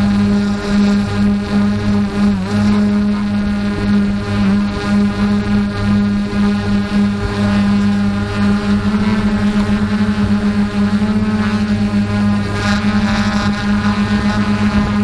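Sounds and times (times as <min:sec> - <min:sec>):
engine running with pulsing beat: 0:00.0 - 0:15.0.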